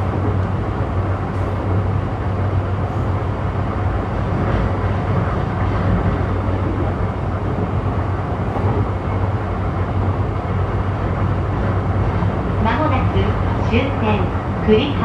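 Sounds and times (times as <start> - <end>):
low hum: 0.0 - 15.0
train wheels rumbling on rail: 0.0 - 15.0.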